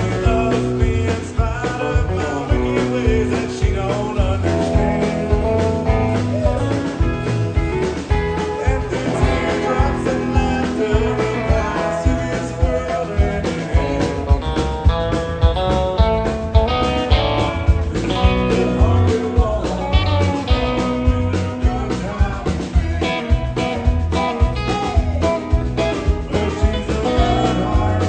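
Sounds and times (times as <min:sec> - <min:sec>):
country band playing: 0:00.0 - 0:28.0.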